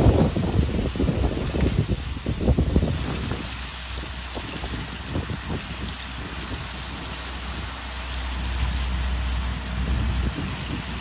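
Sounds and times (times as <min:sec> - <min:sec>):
low rumble: 0:00.0 - 0:11.0
wind rustling dry corn leaves: 0:00.0 - 0:11.0.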